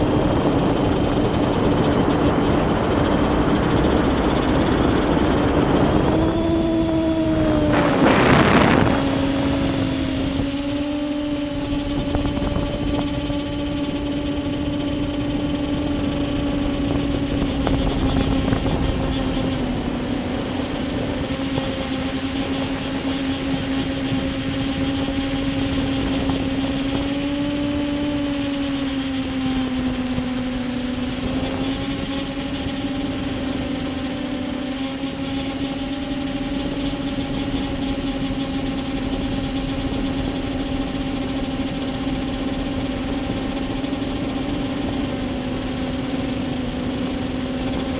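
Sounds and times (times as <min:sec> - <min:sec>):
drone motors humming: 0:00.0 - 0:47.9
high thin whine: 0:00.0 - 0:47.9.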